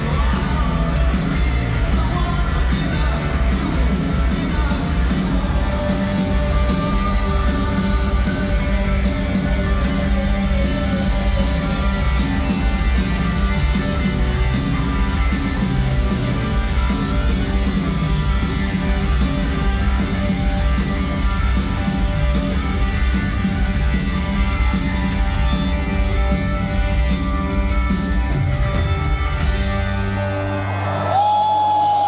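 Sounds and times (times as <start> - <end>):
bass guitar: 0.0 - 31.3.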